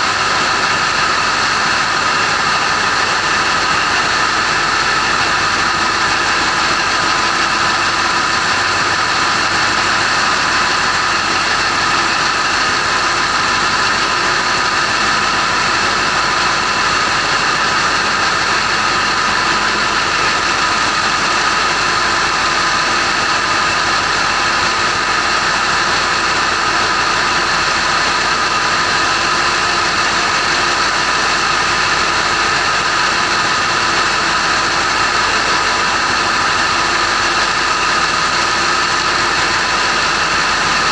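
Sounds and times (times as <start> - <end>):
diesel engines running: 0.0 - 40.9.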